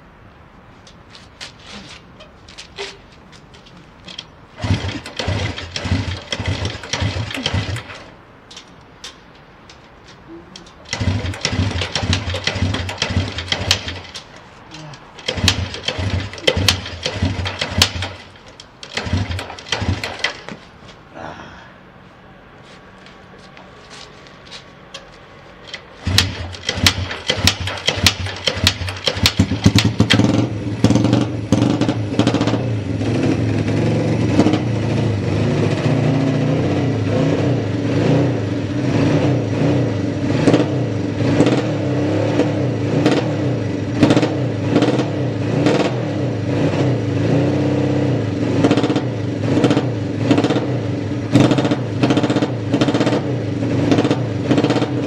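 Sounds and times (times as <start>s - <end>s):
motorcycle engine starting and idling: 4.1s - 8.6s, 10.6s - 20.7s, 24.9s - 55.0s.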